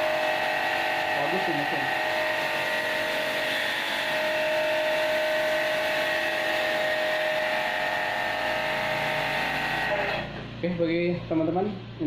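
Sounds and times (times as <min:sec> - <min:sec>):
pressure washer motor whine: 0:00.0 - 0:10.6.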